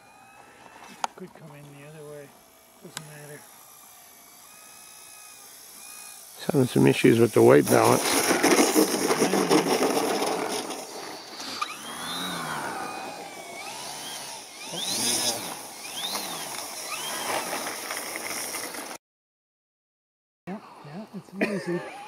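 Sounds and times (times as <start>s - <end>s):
model plane motor and propeller: 0.0s - 19.0s.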